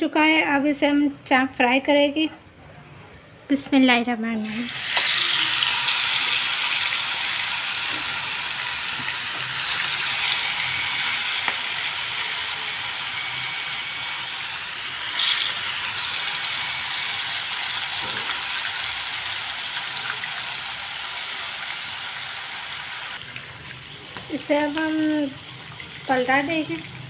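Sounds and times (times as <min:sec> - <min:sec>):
meat sizzling in hot oil: 0:04.5 - 0:27.0.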